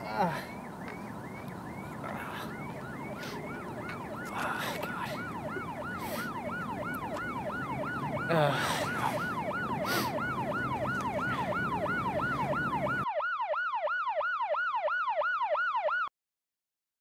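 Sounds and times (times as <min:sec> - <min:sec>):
siren yelping: 0:00.0 - 0:16.1.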